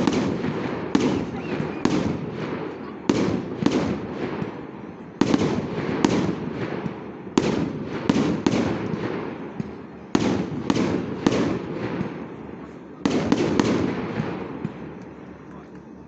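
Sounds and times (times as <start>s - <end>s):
fireworks bangs with rolling rumble: 0.0s - 16.0s.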